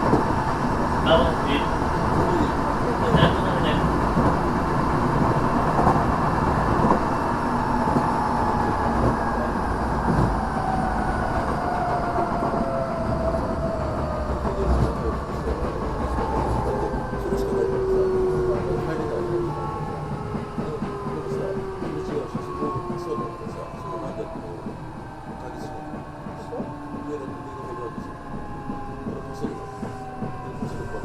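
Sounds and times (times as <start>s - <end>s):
train rumble and wheel noise: 0.0s - 31.0s.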